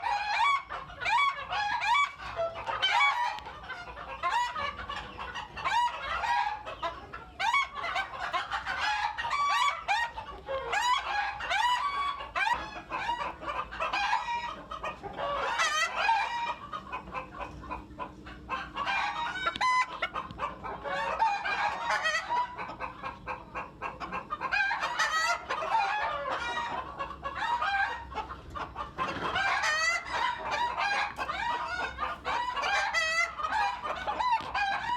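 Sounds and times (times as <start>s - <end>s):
roosters crowing: 0.0s - 22.9s, 23.6s - 34.9s
chickens clucking: 0.0s - 34.9s.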